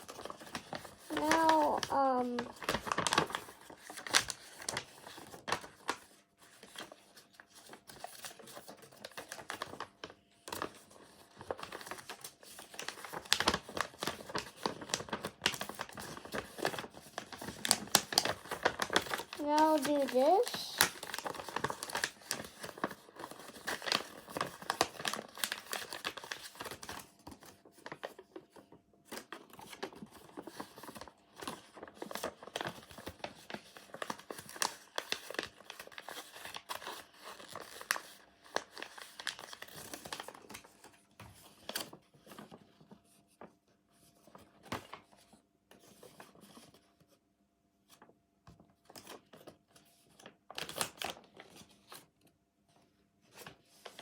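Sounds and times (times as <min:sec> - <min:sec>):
paper being folded and creased: 0:00.0 - 0:46.9, 0:48.8 - 0:52.1, 0:53.2 - 0:54.0.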